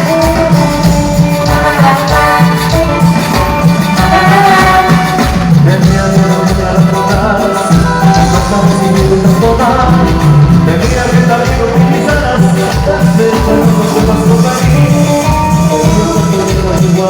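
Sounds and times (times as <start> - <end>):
band playing latin dance music: 0.0 - 17.0
percussion ticking: 0.0 - 17.0
pulsing bass line: 0.0 - 17.0.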